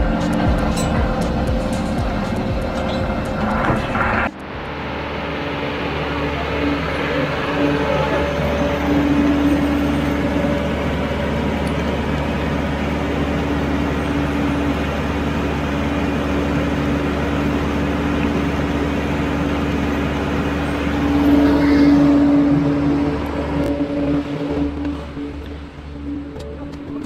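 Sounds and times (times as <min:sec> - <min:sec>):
truck engines droning: 0:00.0 - 0:27.0.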